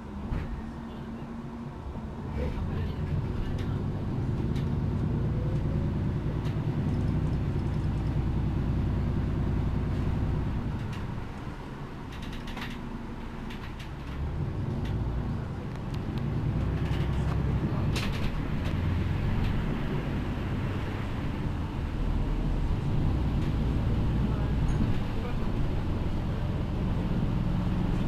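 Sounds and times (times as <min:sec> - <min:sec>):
bus diesel engine running: 0:00.0 - 0:28.0
bus body clicks and rattles: 0:02.5 - 0:08.3, 0:09.8 - 0:26.5.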